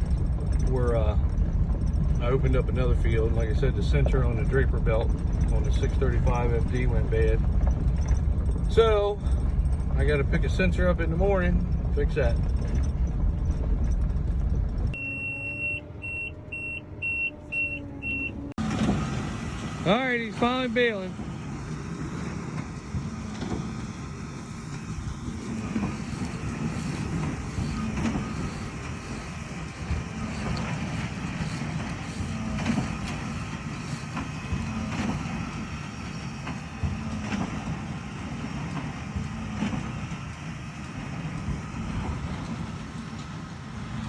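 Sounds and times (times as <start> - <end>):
heavy farm machinery engine drone: 0.0 - 44.0.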